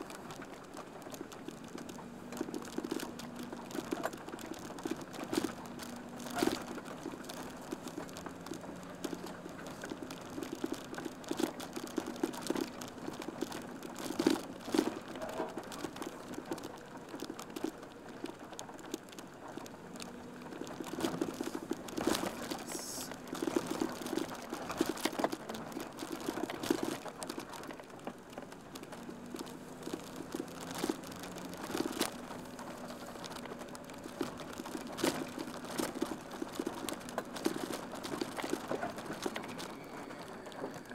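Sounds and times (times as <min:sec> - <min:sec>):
van engine running: 0:00.0 - 0:39.6.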